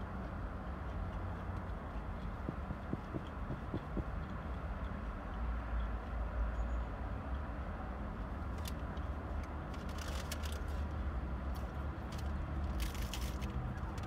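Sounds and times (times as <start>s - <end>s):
road traffic rumble: 0.0s - 14.0s
vehicles driving slowly past: 0.0s - 14.0s.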